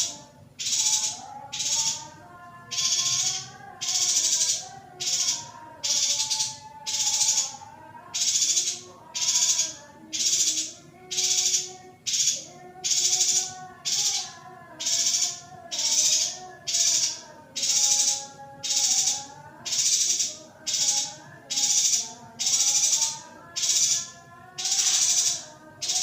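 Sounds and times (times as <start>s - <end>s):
bird harsh rasping calls: 0.0s - 26.0s.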